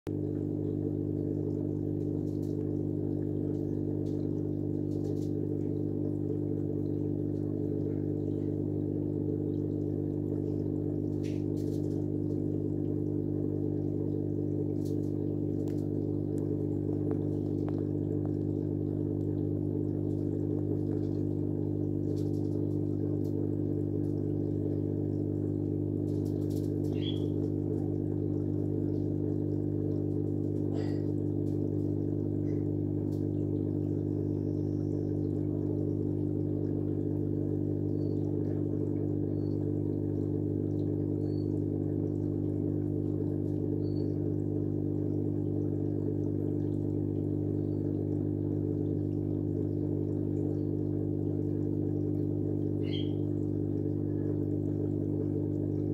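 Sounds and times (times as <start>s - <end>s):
low mechanical hum: 0.0s - 55.9s.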